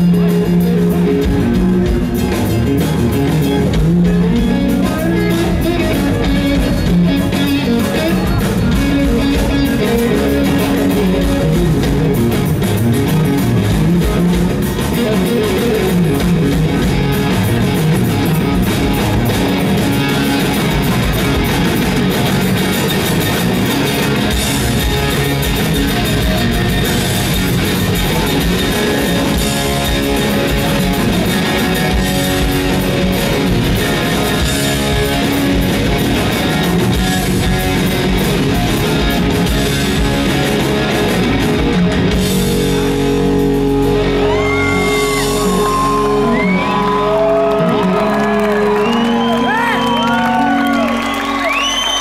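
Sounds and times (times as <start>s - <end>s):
drum kit: 0.0s - 52.0s
electric guitar: 0.0s - 52.0s
live rock band playing: 0.0s - 52.0s.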